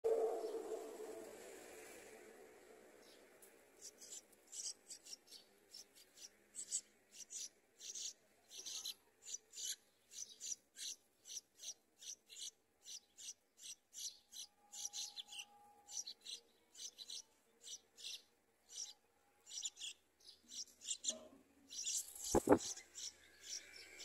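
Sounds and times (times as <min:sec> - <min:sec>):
nestlings begging calls: 0:03.8 - 0:24.0.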